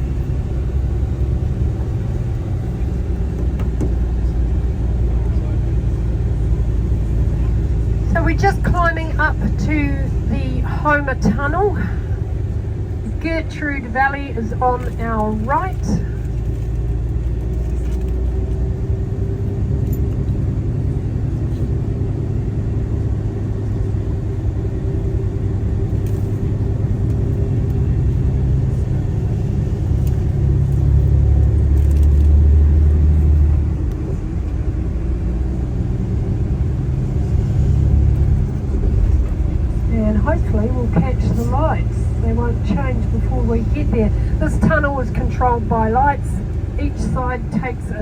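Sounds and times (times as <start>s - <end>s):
coach engine rumble: 0.0s - 48.0s
road noise: 0.0s - 48.0s.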